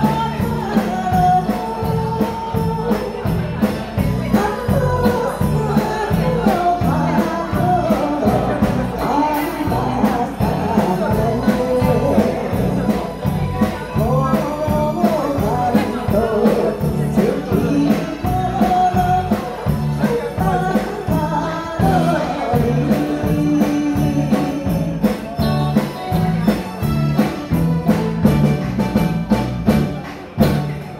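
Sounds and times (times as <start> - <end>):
woman singing into microphone: 0.0 - 25.6
drum kit: 0.0 - 30.9
electric guitar: 0.0 - 30.9
keyboard: 0.0 - 30.9.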